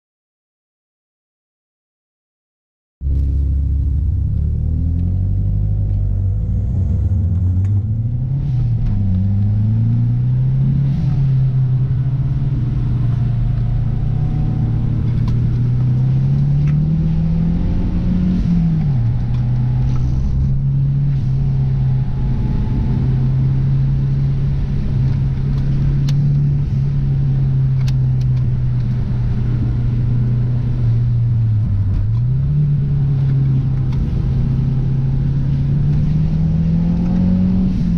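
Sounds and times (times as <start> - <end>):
car engine: 3.0 - 37.9
road rumble: 3.0 - 37.9.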